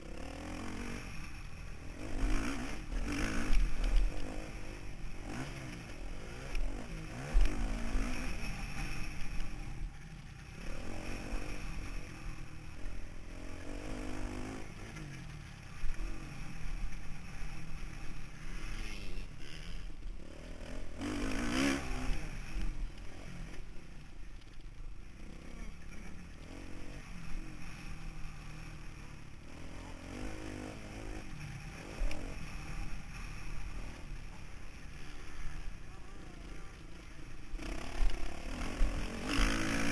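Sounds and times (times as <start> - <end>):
motorbike engine revving: 0.0 - 24.0, 25.0 - 39.9.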